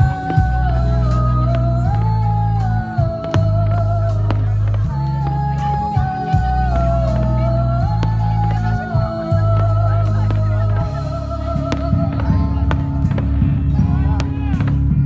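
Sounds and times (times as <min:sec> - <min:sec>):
slow background music: 0:00.0 - 0:15.0.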